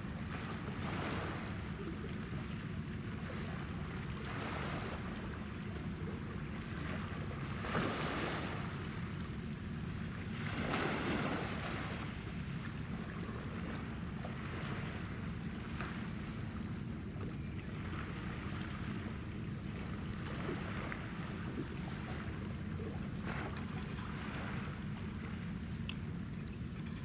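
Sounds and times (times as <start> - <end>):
small waves washing: 0.0 - 26.2.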